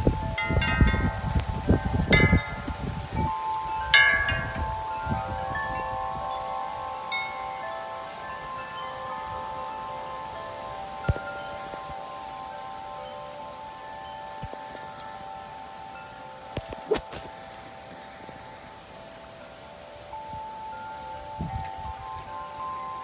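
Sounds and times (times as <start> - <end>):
metal wind chimes ringing: 0.0 - 23.0
steady rain hiss: 0.0 - 23.0.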